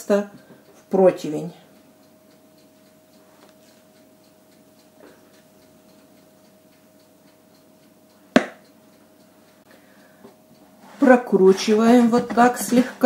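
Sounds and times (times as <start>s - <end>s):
steady hum: 0.0s - 13.0s
faint ticking: 1.6s - 13.0s.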